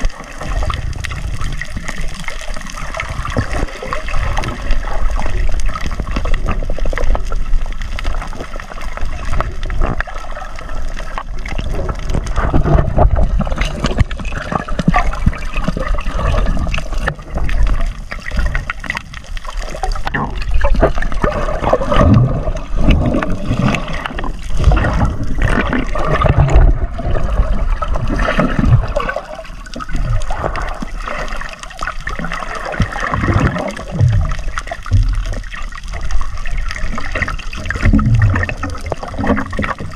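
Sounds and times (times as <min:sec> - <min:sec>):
bubbles: 0:00.0 - 0:39.9
muffled water sloshing underwater: 0:00.0 - 0:39.9.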